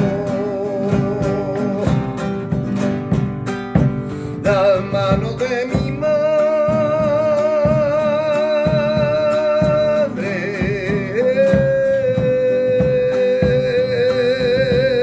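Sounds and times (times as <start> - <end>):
person singing long notes: 0.0 - 2.6, 4.4 - 15.0
strummed guitar: 0.0 - 15.0.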